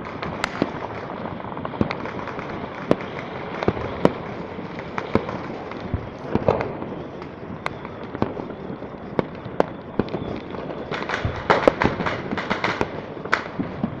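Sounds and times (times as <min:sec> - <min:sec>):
firecrackers crackling: 0:00.0 - 0:14.0
fireworks banging: 0:00.0 - 0:14.0.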